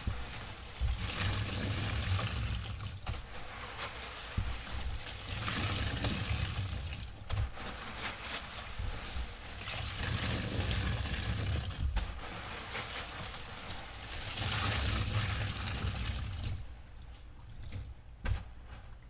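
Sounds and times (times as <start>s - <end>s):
sponge being squeezed: 0.0s - 18.8s
soapy water trickling: 0.0s - 19.0s.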